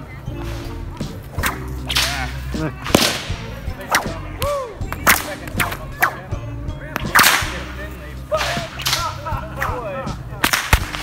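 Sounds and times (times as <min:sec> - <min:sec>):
bullwhip cracking: 0:00.4 - 0:06.3, 0:06.9 - 0:11.0.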